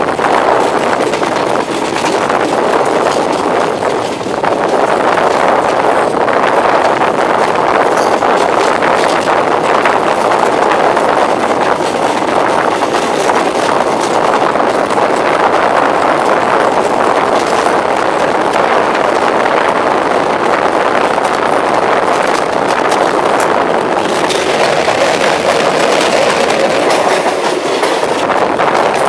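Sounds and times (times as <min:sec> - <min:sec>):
train wheel rumble and rushing air: 0:00.0 - 0:29.0.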